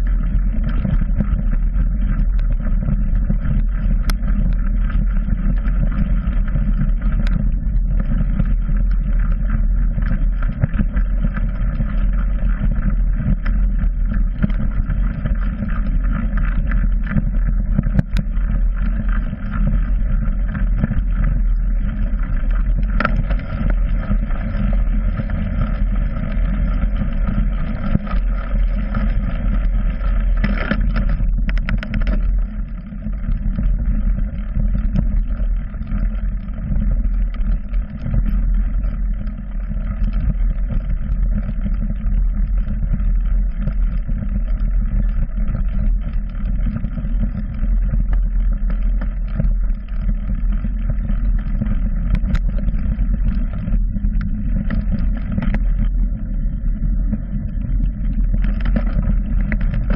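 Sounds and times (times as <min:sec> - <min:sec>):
wind and ride vibration rumble: 0:00.0 - 0:59.9.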